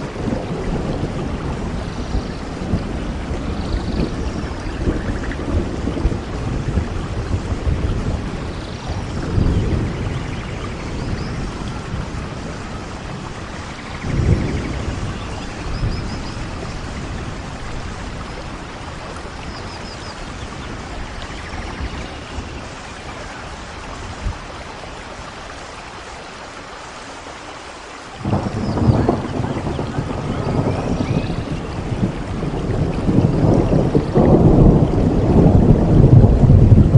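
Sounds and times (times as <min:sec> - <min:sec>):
thunder rumbling: 0:00.0 - 0:26.0, 0:28.2 - 0:36.9
steady rain: 0:00.0 - 0:36.9.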